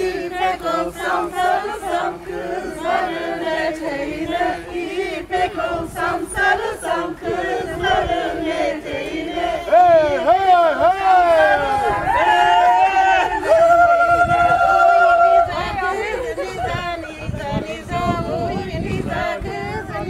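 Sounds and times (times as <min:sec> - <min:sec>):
group singing folk song in unison: 0:00.0 - 0:20.0.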